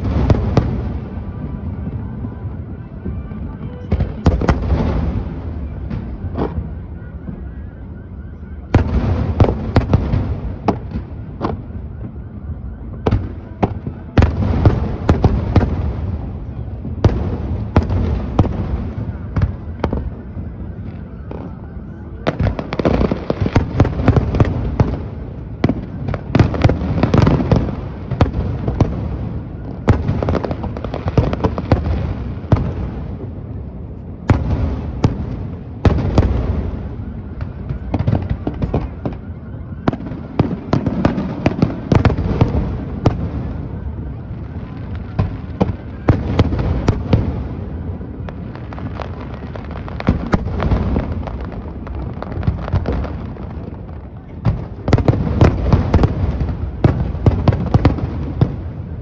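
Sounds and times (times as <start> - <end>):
fireworks crackling: 0.0 - 59.0.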